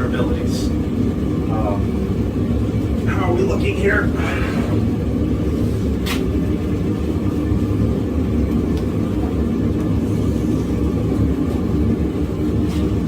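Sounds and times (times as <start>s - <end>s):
forge burner rumbling: 0.0s - 13.0s.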